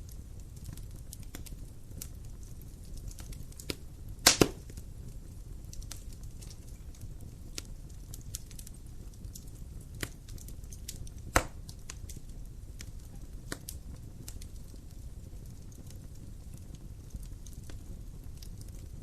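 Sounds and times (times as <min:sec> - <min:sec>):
fire snapping and popping: 0:00.0 - 0:19.0
low rumble of burning: 0:00.0 - 0:19.0.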